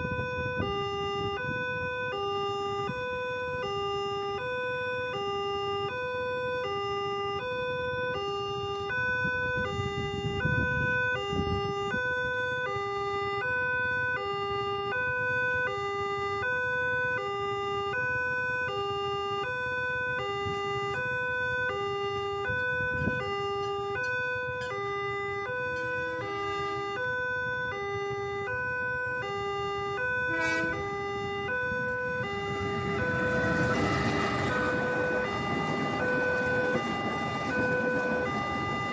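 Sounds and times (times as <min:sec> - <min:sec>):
level crossing two-tone alarm: 0:00.0 - 0:38.9
road traffic: 0:00.0 - 0:38.9.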